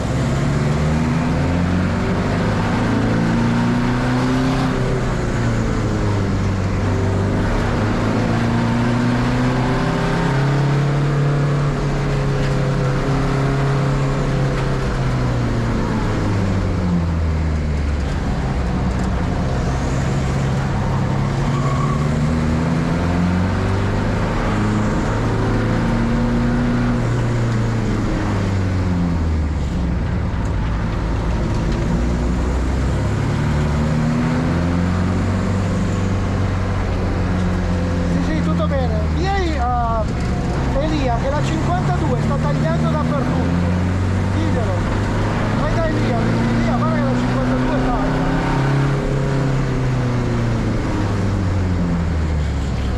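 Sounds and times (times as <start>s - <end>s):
racing car engine accelerating: 0.0s - 52.9s.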